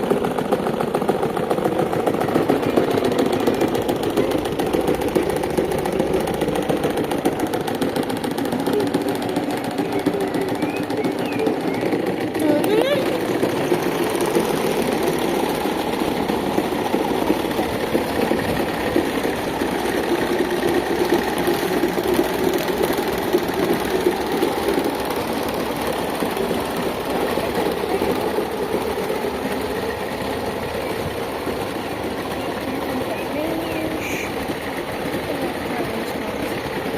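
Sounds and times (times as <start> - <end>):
electric fan rattling: 0.0 - 36.9.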